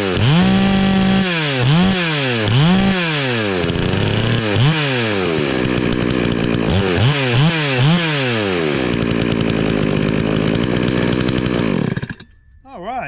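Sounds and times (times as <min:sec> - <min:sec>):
chainsaw engine revving: 0:00.0 - 0:12.2.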